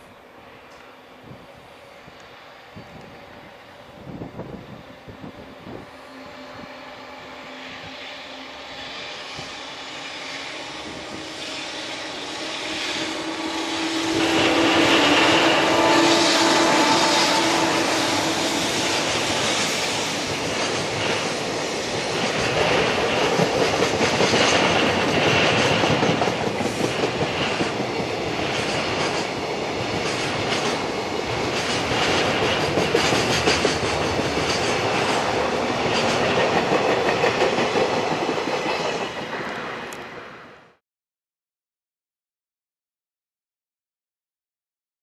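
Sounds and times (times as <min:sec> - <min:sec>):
freight train wheels on rails: 0:00.0 - 0:40.6.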